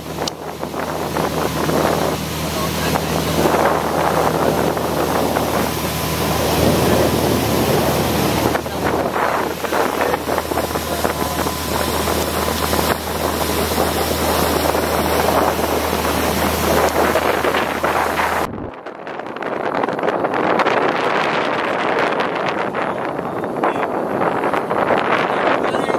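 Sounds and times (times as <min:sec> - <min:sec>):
boat engine droning: 0:00.0 - 0:25.9
water rushing past hull: 0:00.0 - 0:25.9
wind buffeting microphone: 0:00.0 - 0:25.9.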